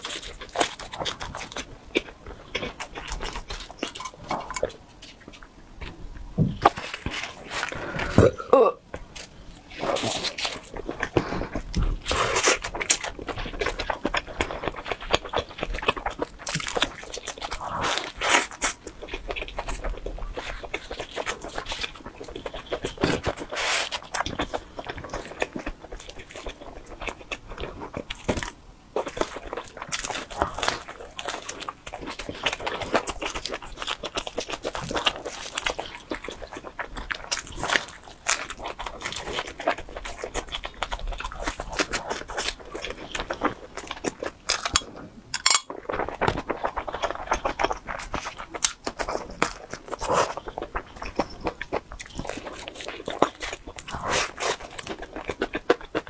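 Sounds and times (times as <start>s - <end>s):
person chewing pizza: 0.0s - 56.0s.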